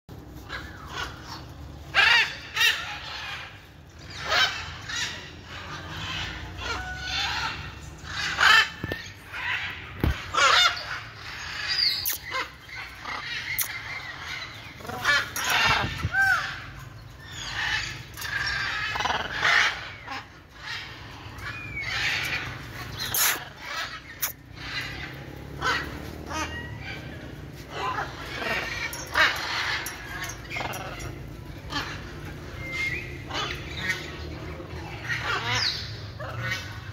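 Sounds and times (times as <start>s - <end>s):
macaws squawking: 0.4s - 36.9s.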